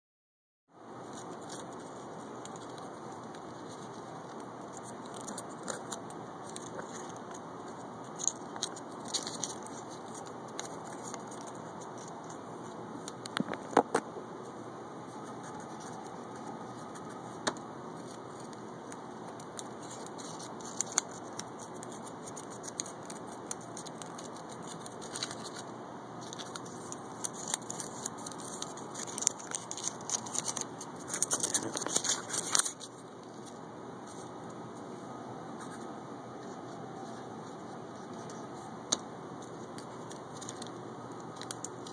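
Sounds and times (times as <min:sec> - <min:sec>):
paper crinkling: 0:01.0 - 0:14.0, 0:15.0 - 0:41.9.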